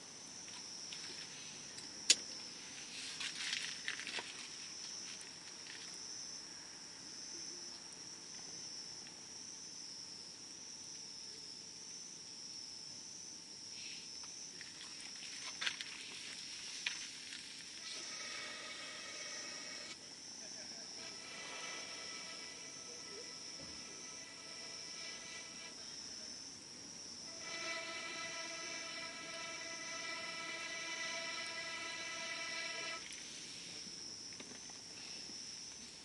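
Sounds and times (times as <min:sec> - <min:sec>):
insect trill: 0:00.0 - 0:36.0.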